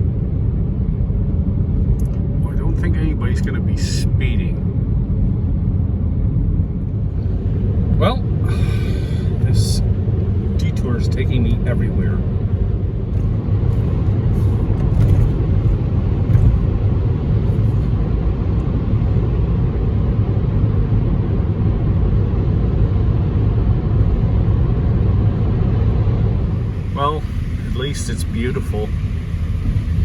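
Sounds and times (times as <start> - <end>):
car cabin road rumble: 0.0 - 30.0.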